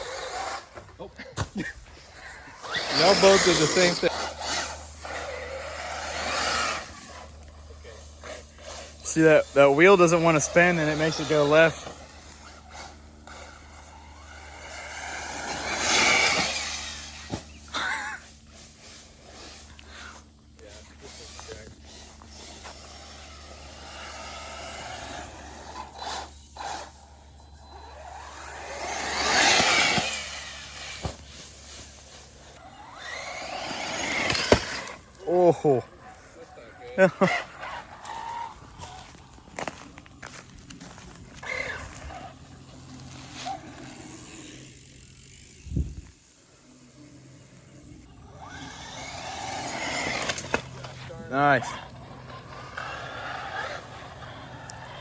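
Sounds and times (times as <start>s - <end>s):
rc car motor whine: 0.0s - 55.0s.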